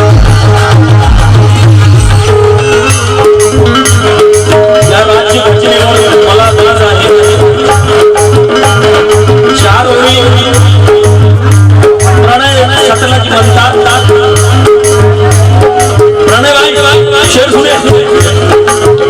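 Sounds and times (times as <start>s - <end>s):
hand drum beats: 0.0s - 19.0s
wavering melody line: 0.0s - 19.0s.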